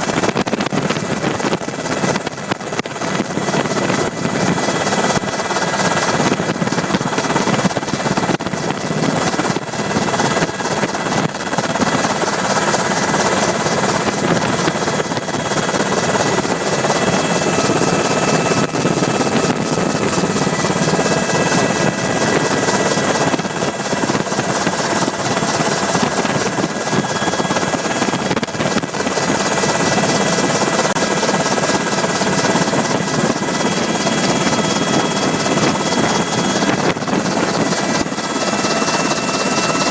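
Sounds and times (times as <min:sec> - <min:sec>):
aircraft engine noise on board: 0:00.0 - 0:39.9.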